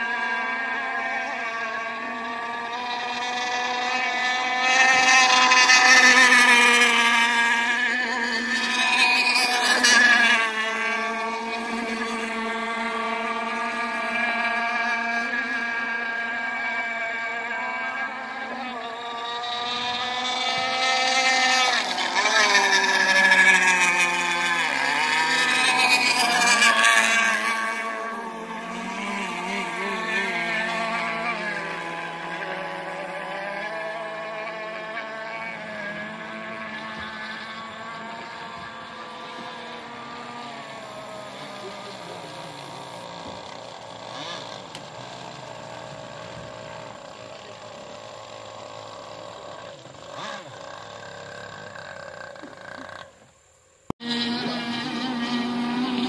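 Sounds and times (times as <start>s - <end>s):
racing boat motors whining: 0.0s - 56.0s.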